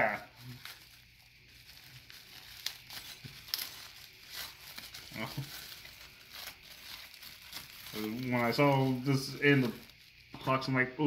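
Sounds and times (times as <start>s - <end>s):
packaging crinkling: 0.0s - 10.7s.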